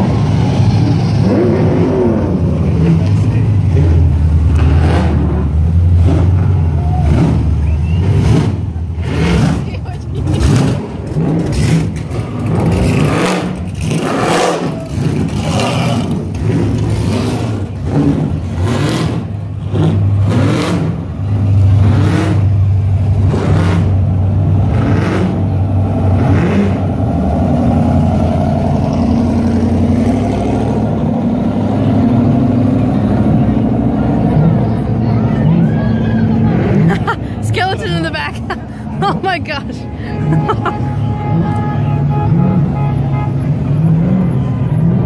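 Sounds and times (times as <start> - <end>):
car engines revving: 0.0 - 45.0
loud low engine rumble: 0.0 - 45.0.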